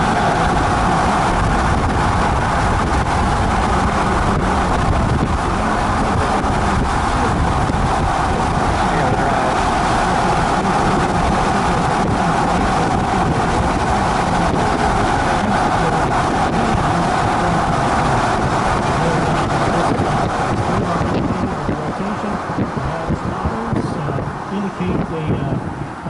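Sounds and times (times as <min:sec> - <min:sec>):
tyre and wind noise: 0:00.0 - 0:26.0.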